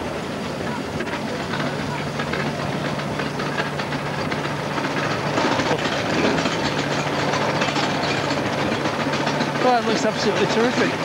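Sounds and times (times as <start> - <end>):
locomotive engine running: 0.0 - 11.0
rapid rattling clatter: 0.7 - 11.0.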